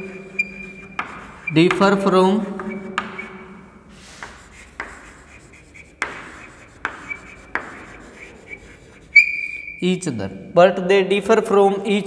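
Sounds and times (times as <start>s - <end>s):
chalk scratching on blackboard: 0.0s - 9.8s
chalk tapping the board: 0.0s - 9.8s.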